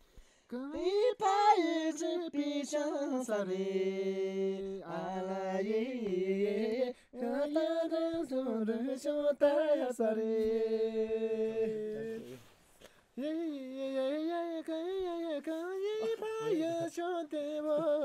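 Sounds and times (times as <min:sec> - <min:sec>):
person singing slow melody: 0:00.5 - 0:12.6, 0:13.2 - 0:18.0.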